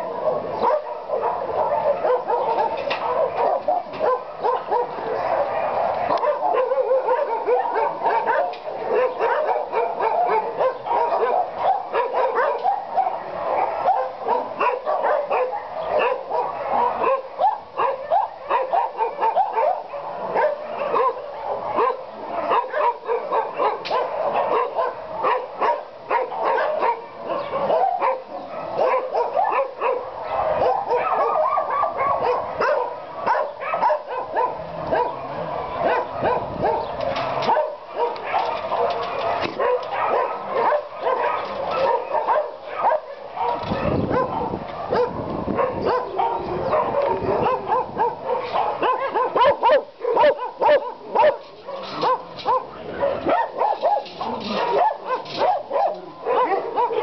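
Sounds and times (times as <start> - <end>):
many dogs barking: 0.0 - 57.0.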